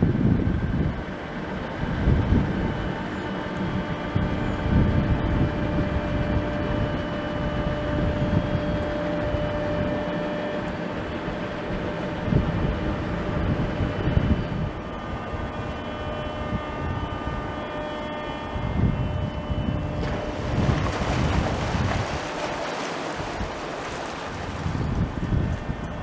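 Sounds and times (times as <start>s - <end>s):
boat engine humming: 0.0s - 26.0s
wind buffeting microphone: 0.0s - 26.0s.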